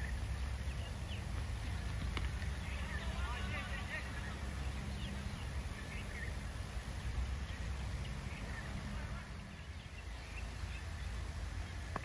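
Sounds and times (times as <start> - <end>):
faint bird chirps: 0.0 - 12.0
steady low hum: 0.0 - 12.0.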